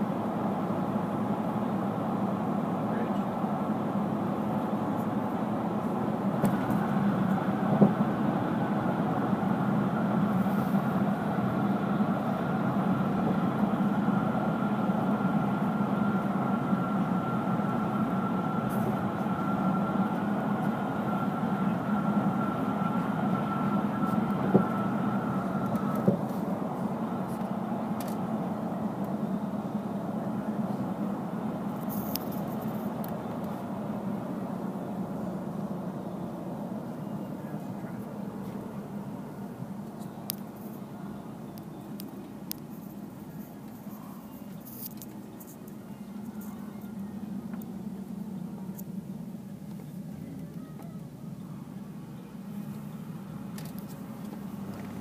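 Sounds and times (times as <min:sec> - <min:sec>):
faint steady whine: 0:00.0 - 0:55.0
road and engine noise inside car: 0:00.0 - 0:55.0.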